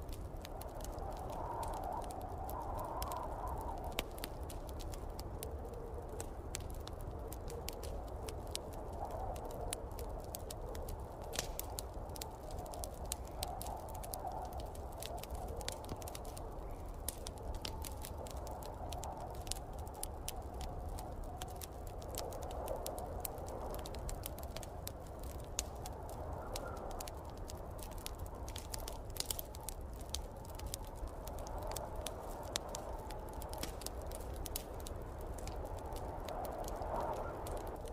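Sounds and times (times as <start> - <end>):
rushing storm wind: 0.0 - 37.9
wood fire crackling and popping: 0.0 - 37.9.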